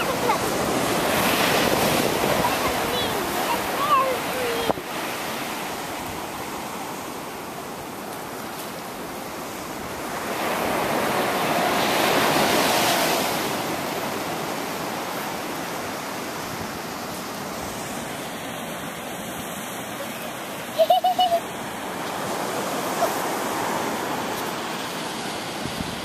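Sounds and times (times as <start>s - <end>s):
waves washing up a beach: 0.0s - 26.0s.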